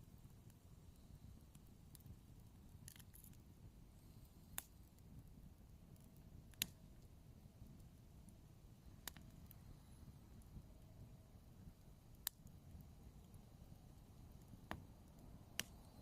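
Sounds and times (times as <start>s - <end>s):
fire crackles and pops: 0.0s - 16.0s
wood fire burning: 0.0s - 16.0s.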